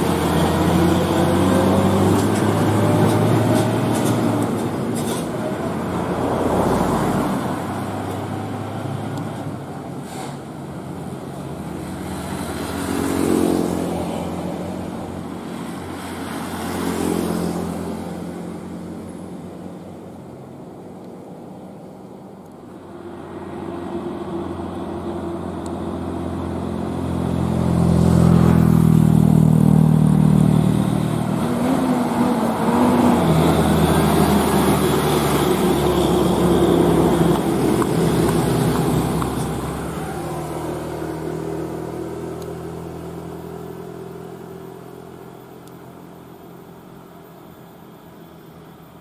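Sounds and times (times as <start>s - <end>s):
diesel truck passing: 0.0s - 20.0s, 22.7s - 49.0s.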